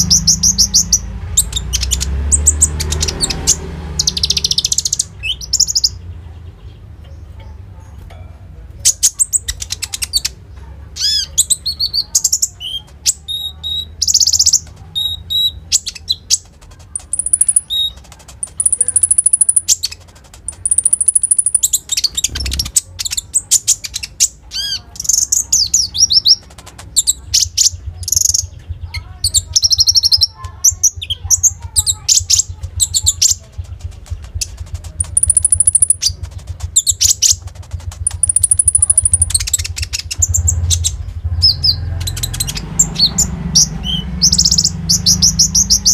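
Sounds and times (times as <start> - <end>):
songbird chirping and trilling: 0.0 - 45.9.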